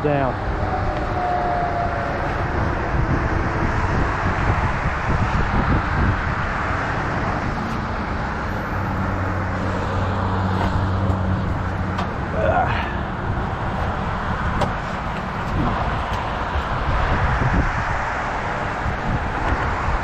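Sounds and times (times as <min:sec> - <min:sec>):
diesel engine running: 0:00.1 - 0:19.9.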